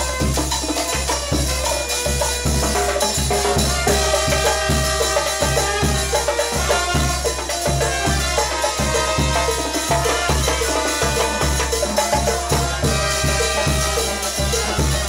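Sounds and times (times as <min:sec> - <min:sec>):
dance band music: 0:00.0 - 0:15.0
percussion: 0:00.0 - 0:15.0.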